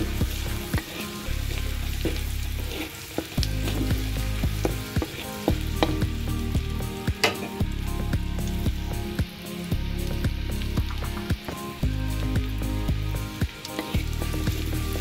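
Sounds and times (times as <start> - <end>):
butter sizzling in a pan: 0.0 - 15.0.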